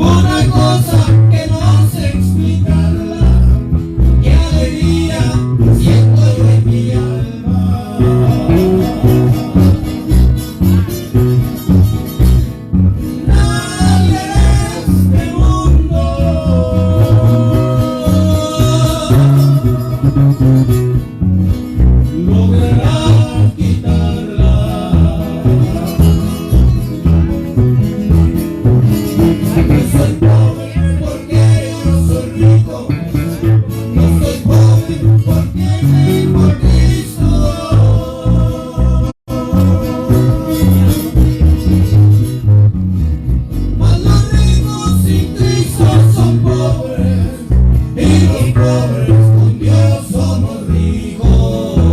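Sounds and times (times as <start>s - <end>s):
person singing: 0.0s - 10.2s, 13.2s - 21.0s, 22.2s - 26.9s, 29.5s - 41.4s, 43.8s - 51.9s
guitars strummed and plucked: 0.0s - 51.9s
pulsing bass line: 0.0s - 51.9s.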